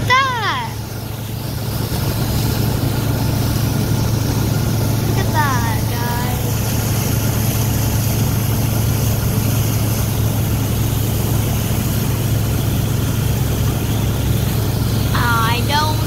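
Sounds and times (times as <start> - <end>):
churning wake water: 0.0 - 16.0
motorboat engine drone: 0.0 - 16.0.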